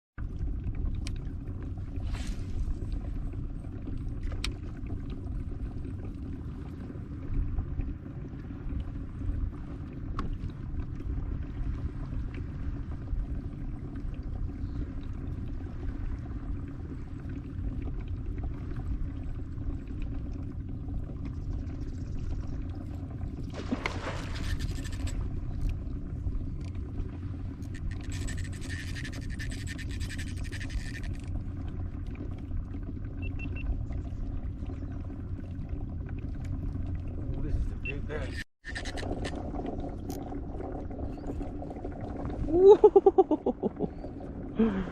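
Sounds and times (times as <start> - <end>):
water around a moving kayak: 0.2 - 44.9.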